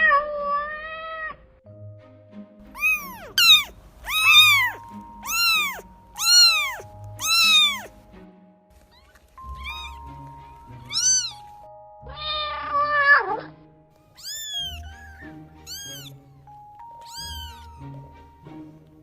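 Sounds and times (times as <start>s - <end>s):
cat meowing: 0.0s - 1.5s, 2.7s - 8.0s, 8.8s - 13.5s, 14.1s - 18.1s
soft background music: 0.0s - 19.0s.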